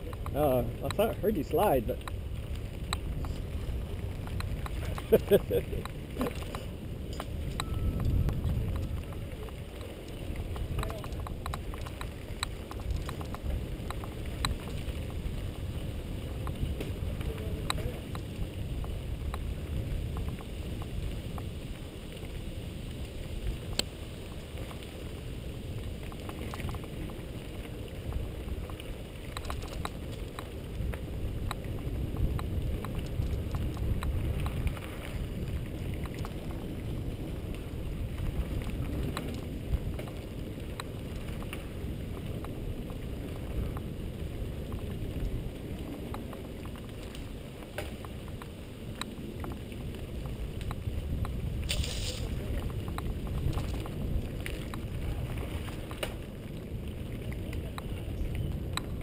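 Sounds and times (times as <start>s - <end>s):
bike clicks and rattles: 0.0s - 43.9s, 44.5s - 56.4s
wind rumble on microphone: 0.0s - 59.0s.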